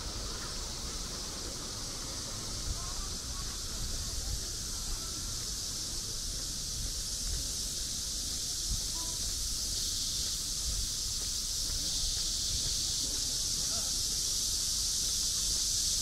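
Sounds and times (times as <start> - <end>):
insects hissing: 0.0 - 16.0.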